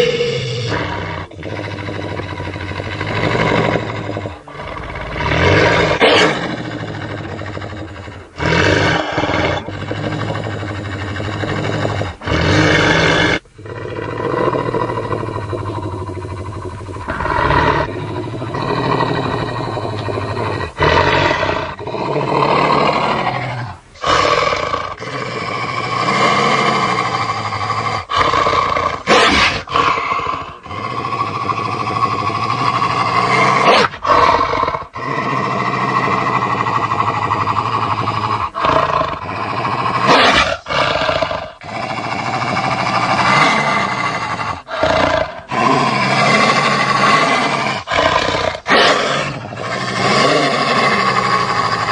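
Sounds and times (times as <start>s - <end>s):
creature roars and growls: 0.0s - 51.9s.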